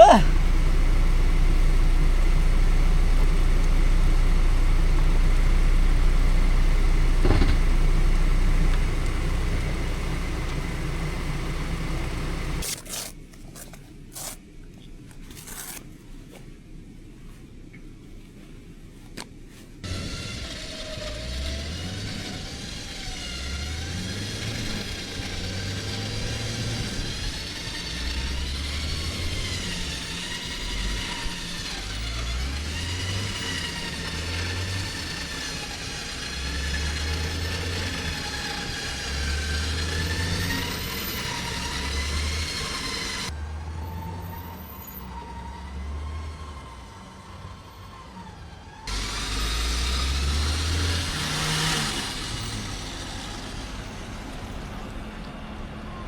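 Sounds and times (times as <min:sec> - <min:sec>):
vehicle engines under heavy load: 0:00.0 - 0:16.5, 0:18.5 - 0:56.0.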